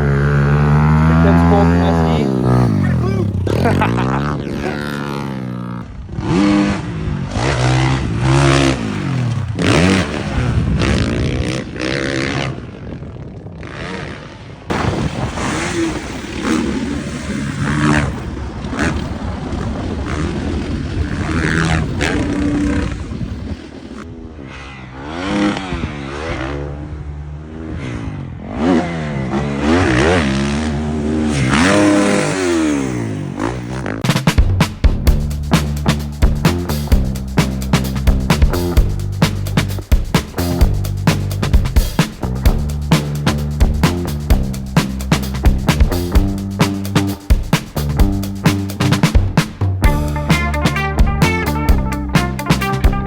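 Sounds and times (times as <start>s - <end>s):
dirt bike engine revving: 0.0s - 12.8s, 13.6s - 23.2s, 24.5s - 53.0s.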